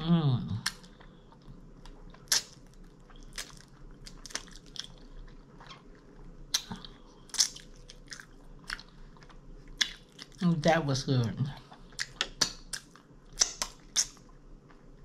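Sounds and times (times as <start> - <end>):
person chewing and crunching: 0.3 - 10.4, 11.5 - 15.0.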